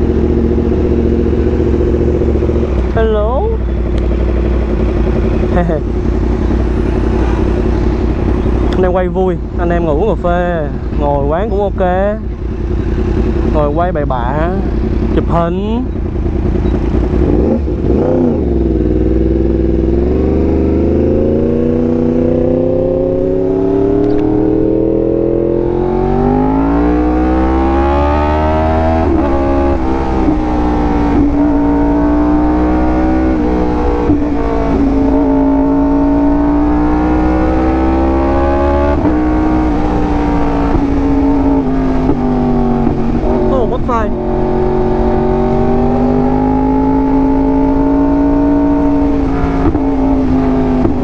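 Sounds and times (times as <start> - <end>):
low wind rumble: 0.0 - 51.0
motorcycle engine revving: 0.0 - 51.0.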